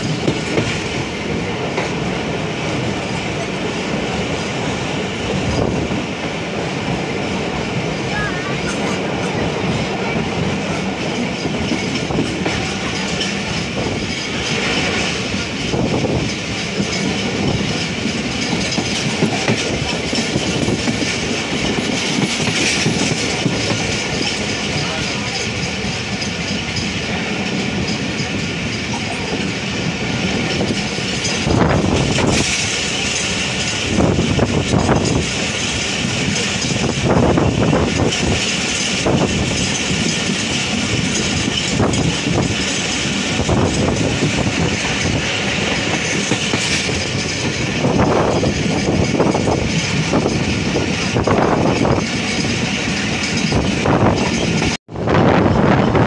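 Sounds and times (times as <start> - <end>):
wheels clickety-clack: 0.0 - 54.8
train rumble and wind: 0.0 - 56.0.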